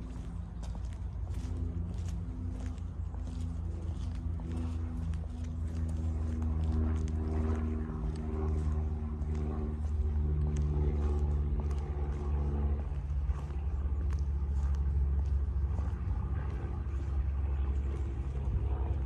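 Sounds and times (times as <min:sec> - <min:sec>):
engine low rumble: 0:00.0 - 0:19.0
pitched hum: 0:00.0 - 0:19.0.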